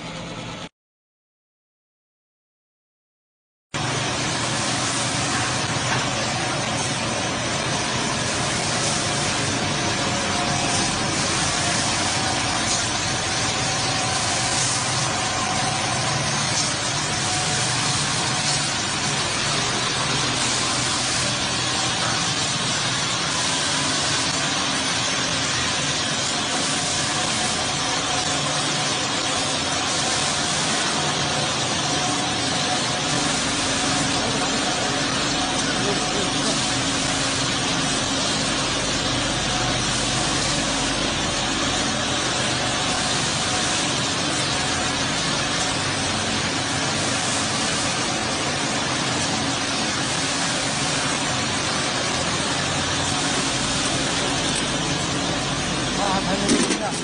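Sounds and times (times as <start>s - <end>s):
production line machine noise: 0.0s - 0.7s, 3.8s - 57.0s
faint machine whine: 3.8s - 57.0s.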